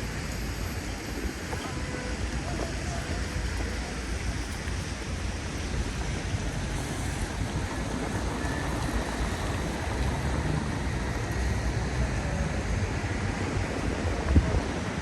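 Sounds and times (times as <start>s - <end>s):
rain hissing: 0.0s - 13.4s
city traffic rumble: 0.0s - 15.0s.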